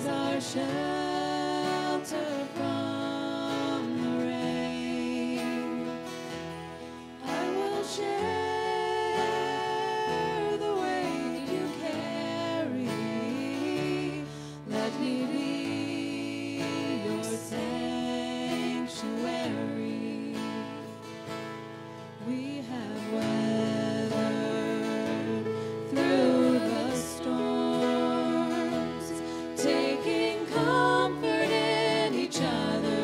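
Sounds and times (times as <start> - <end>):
person singing: 0.0 - 6.3, 6.9 - 21.1, 22.2 - 33.0
acoustic guitar: 0.0 - 33.0.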